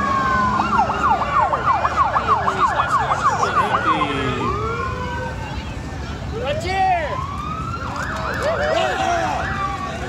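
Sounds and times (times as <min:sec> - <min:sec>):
emergency siren: 0:00.0 - 0:10.0.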